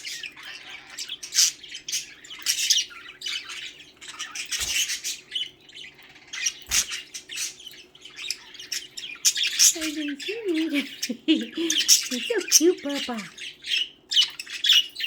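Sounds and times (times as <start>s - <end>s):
budgerigars chattering and squawking: 0.0s - 15.0s.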